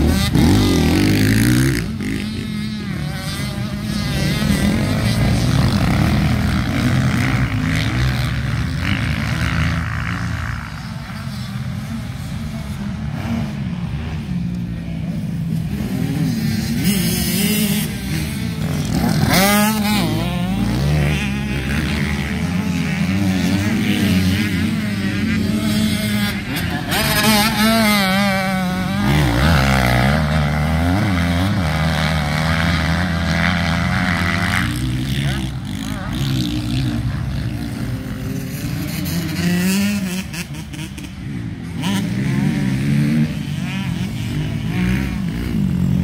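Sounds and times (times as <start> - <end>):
motocross bike engines revving: 0.0 - 46.0.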